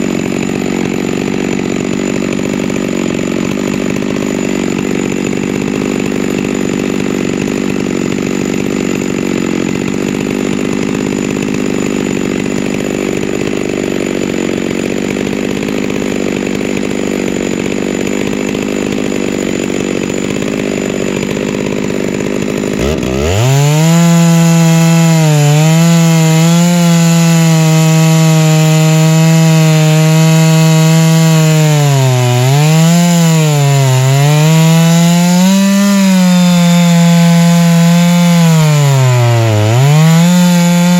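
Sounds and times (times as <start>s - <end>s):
chainsaw mill ripping a log: 0.0s - 40.9s.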